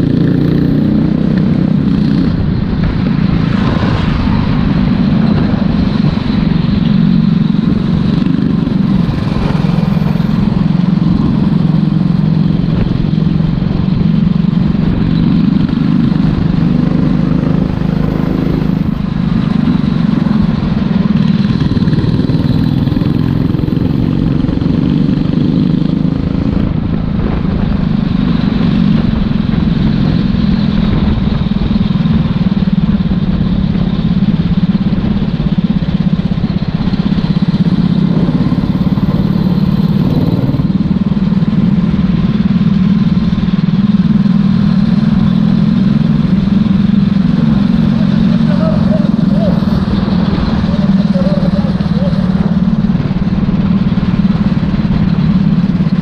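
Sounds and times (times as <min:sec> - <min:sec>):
kart engine racing: 0:00.0 - 0:56.0.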